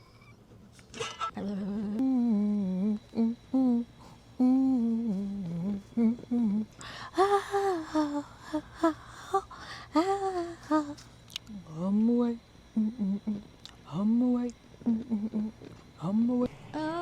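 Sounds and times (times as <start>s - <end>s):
woman humming: 1.3s - 17.0s.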